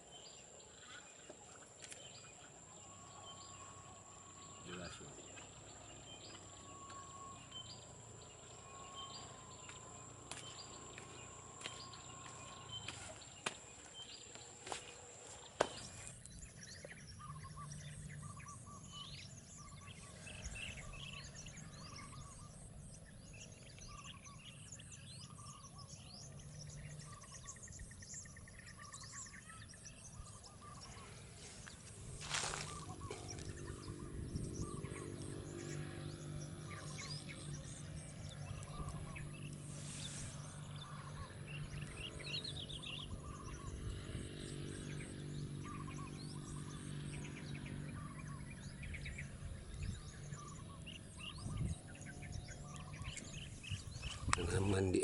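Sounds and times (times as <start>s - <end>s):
birds chirping and calling: 0.0s - 55.0s
steady high-pitched whine: 0.0s - 55.0s.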